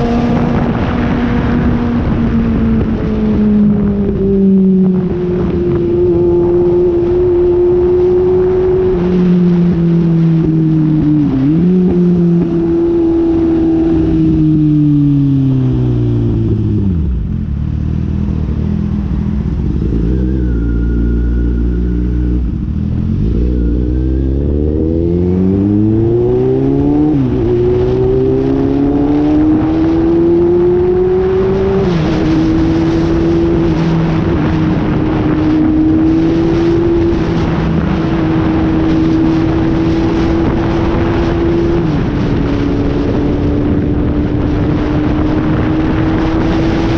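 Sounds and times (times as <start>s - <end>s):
motorcycle engine accelerating: 0.0s - 46.9s
wind buffeting microphone: 0.0s - 46.9s.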